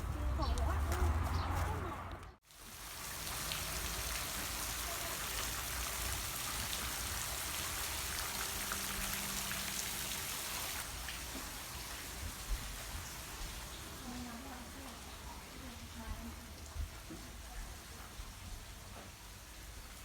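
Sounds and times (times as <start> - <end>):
steady rain hiss: 2.4 - 20.0.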